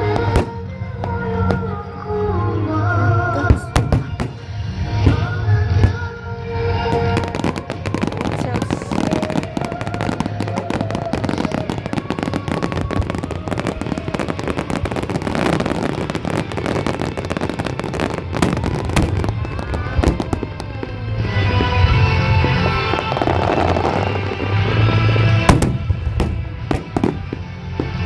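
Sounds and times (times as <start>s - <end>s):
fireworks crackling and popping: 0.0s - 28.0s
music playing: 0.0s - 28.0s.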